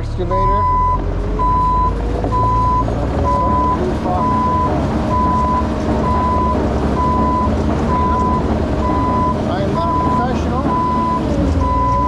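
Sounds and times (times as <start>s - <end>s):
excavator diesel engine running: 0.0s - 12.0s
back-up alarm beeping: 0.3s - 12.0s.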